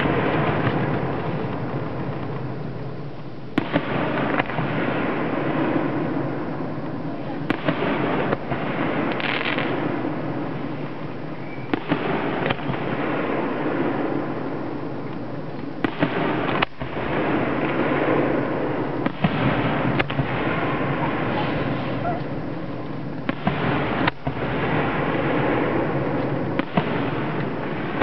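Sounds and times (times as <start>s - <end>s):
fireworks bangs: 0.0s - 28.0s
steady background noise: 0.0s - 28.0s.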